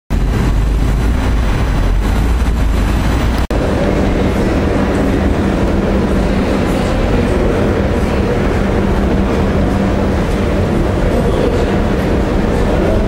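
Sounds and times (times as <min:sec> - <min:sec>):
city traffic rumble: 0:00.1 - 0:13.0
station interior noise: 0:00.1 - 0:13.0
steady low hum: 0:00.1 - 0:13.0.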